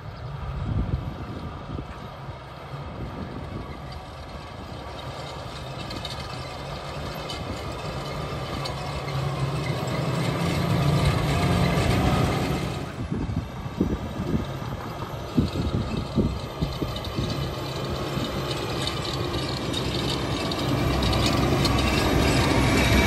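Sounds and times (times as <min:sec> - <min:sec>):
tractor diesel engine running: 0:00.2 - 0:23.0.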